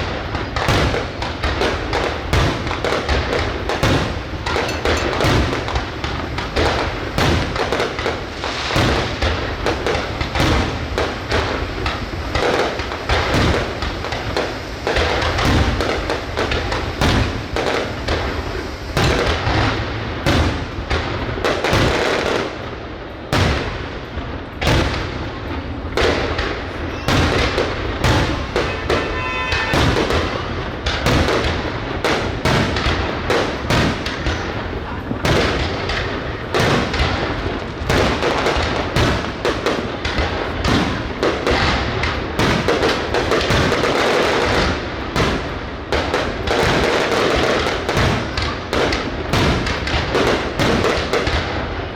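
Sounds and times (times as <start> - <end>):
firework whistling: 0.0 - 51.8
fireworks bangs and booms: 0.0 - 51.9.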